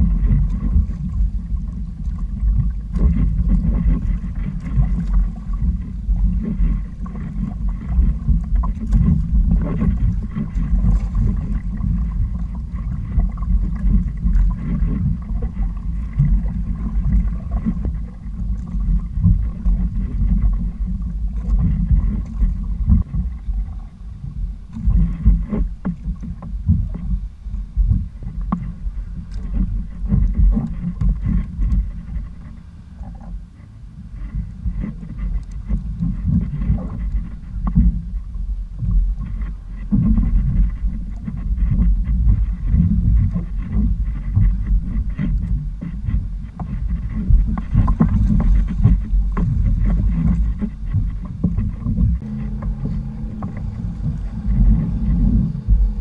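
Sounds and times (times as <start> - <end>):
water splashing against hull: 0.0 - 56.0
wind buffeting microphone: 0.0 - 56.0.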